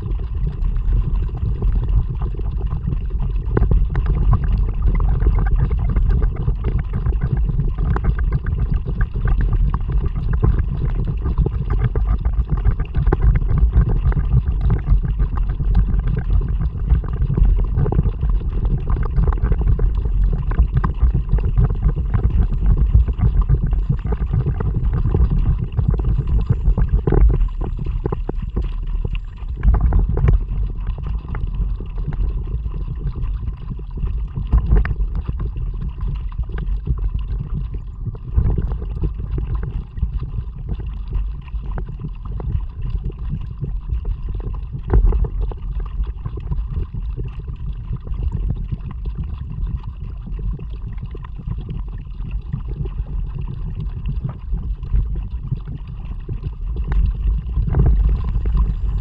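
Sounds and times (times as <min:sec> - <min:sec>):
wind rumble on microphone: 0:00.0 - 0:59.0
water splashing against kayak: 0:00.6 - 0:59.0.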